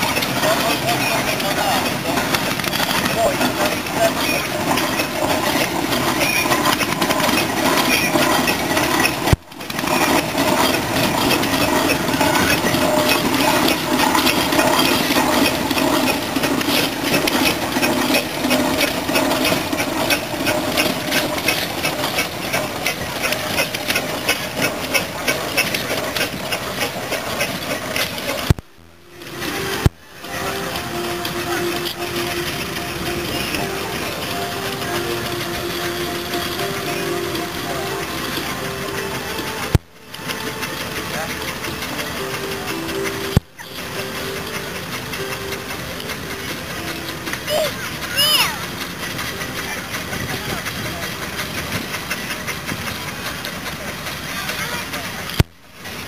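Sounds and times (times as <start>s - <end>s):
steam traction engine clatter: 0.0s - 56.0s.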